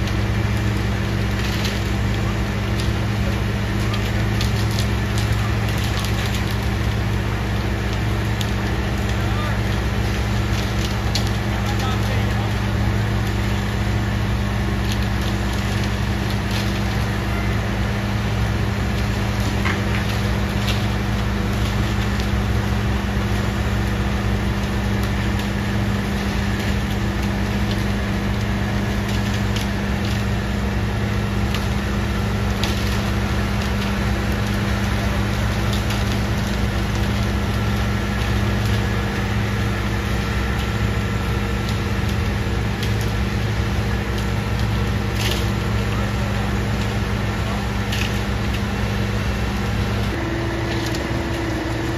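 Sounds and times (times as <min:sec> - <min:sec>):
diesel truck engine humming: 0:00.0 - 0:51.9.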